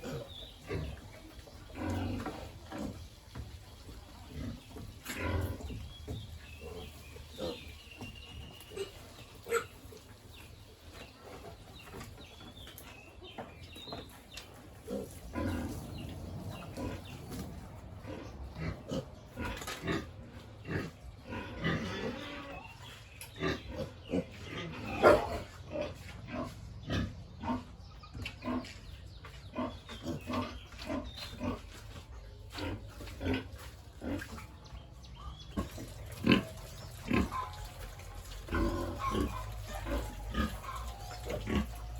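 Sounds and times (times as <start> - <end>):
pigs grunting: 0.0 - 3.2, 4.2 - 10.4, 14.7 - 41.9.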